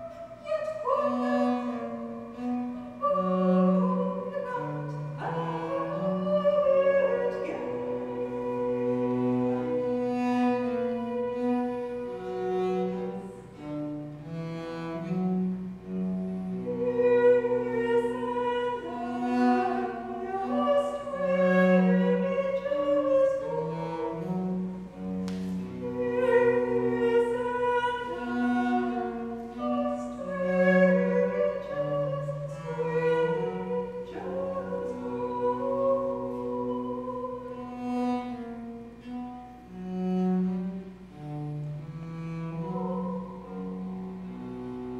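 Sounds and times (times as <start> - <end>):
woman singing long notes: 0.0 - 13.7, 16.0 - 38.6, 42.1 - 44.6
bowed cello low notes: 0.0 - 44.9.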